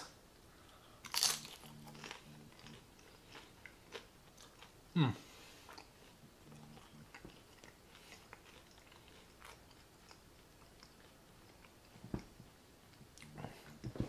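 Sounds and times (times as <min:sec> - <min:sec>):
chewing crunchy food: 0:00.7 - 0:04.8, 0:05.6 - 0:14.0.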